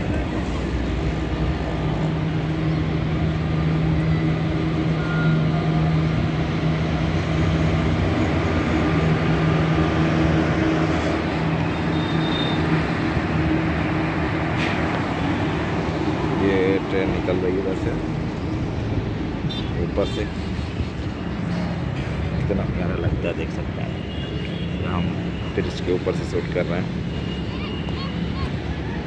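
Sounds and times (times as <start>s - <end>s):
train wheels rumbling on rails: 0.0s - 23.8s.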